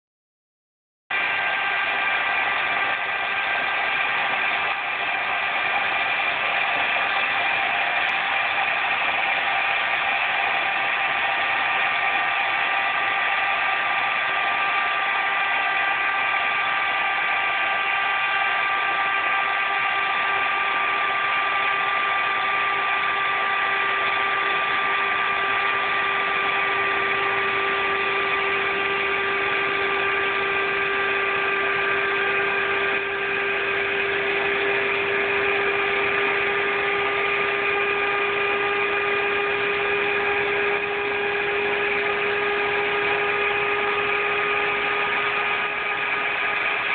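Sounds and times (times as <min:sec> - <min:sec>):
electric air pump whirring: 0:01.1 - 0:46.9.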